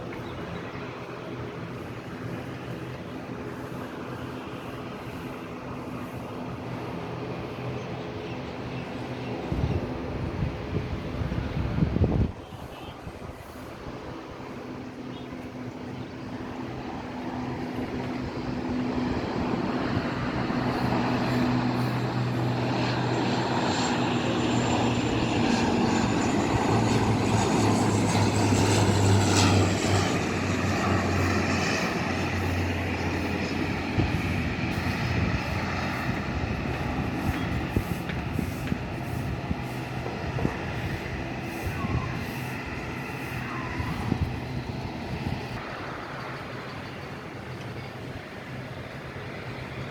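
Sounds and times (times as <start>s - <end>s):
airplane engines passing: 0.0s - 49.9s.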